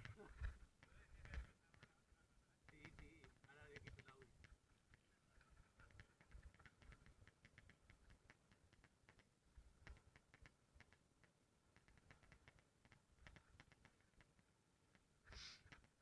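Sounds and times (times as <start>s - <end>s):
faint irregular clicking: 0.0s - 16.0s.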